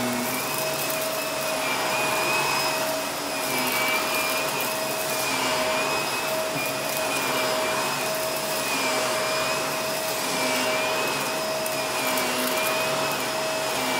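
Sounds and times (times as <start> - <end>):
vacuum cleaner running over carpet: 0.0 - 13.9.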